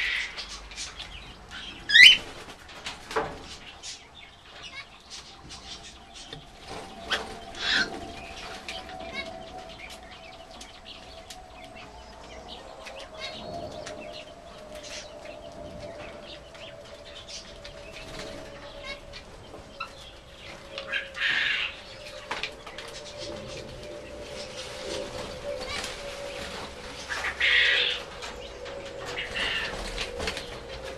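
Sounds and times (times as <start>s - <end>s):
wing flutter: 4.6s - 30.9s.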